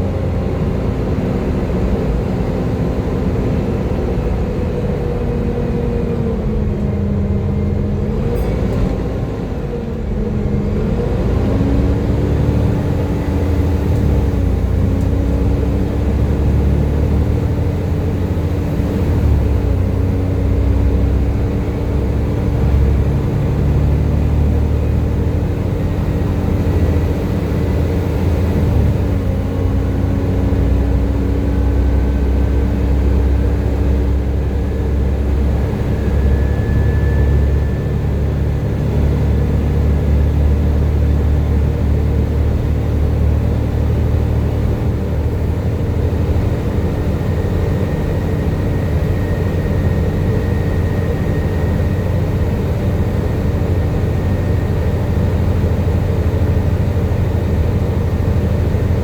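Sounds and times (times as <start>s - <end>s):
bus diesel engine whining: 0.0s - 59.0s.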